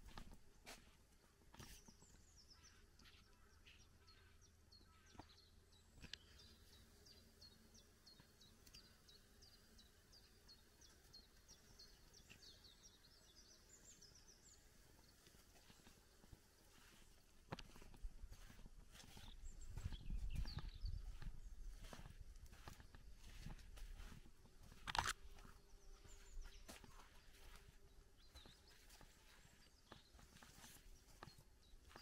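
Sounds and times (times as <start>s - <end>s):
songbird singing faintly: 0.0s - 32.0s.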